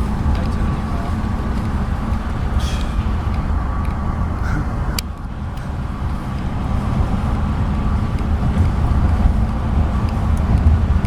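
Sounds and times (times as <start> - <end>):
road vehicle engine rumble: 0.0 - 11.0.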